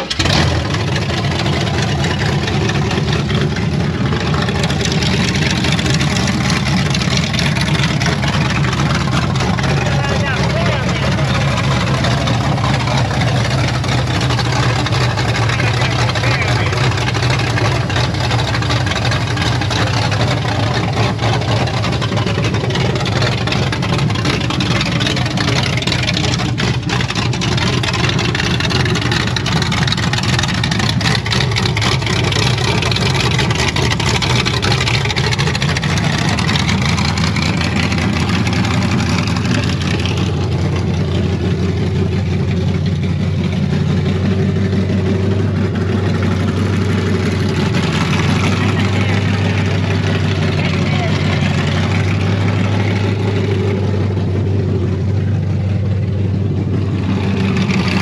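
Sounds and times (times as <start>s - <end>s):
pickup engine running: 0.0s - 58.0s.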